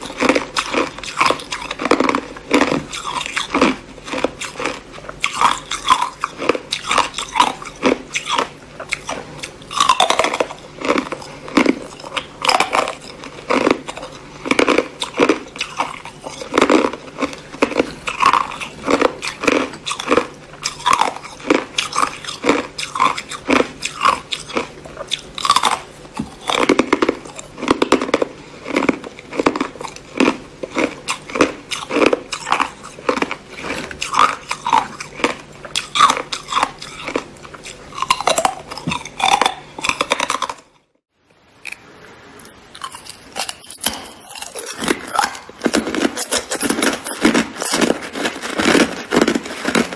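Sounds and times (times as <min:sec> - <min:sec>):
teeth crunching ice cubes: 0:00.0 - 0:41.0, 0:42.7 - 0:49.9.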